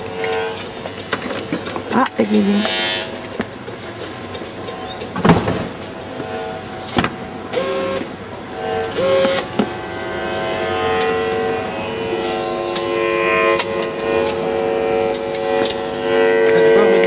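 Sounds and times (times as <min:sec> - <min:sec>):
electrical buzzing tones: 0:00.0 - 0:17.0.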